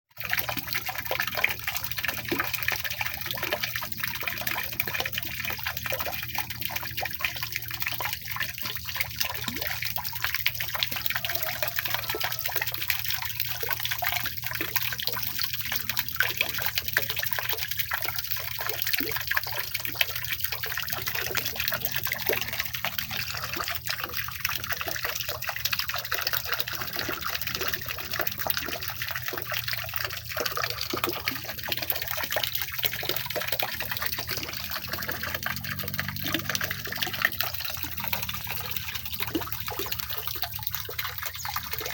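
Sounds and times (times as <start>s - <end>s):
water fountain trickling and splashing: 0.1s - 41.9s.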